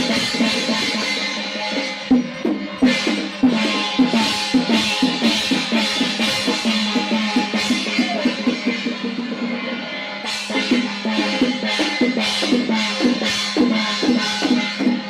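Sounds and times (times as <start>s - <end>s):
drums gongs and cymbals playing: 0.0s - 15.0s.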